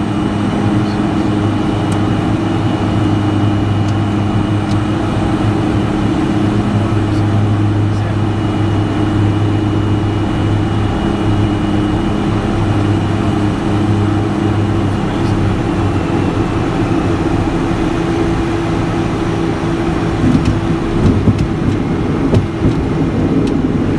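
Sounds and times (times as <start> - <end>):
turboprop engines droning: 0.0 - 23.9.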